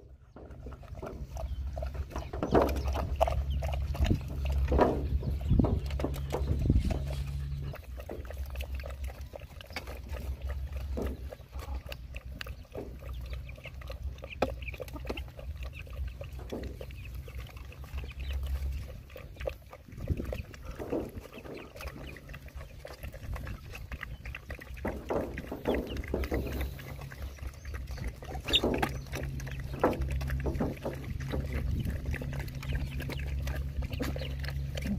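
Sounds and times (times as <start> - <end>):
dogs lapping and chewing food: 0.0 - 34.9
low steady rumble: 0.0 - 34.9.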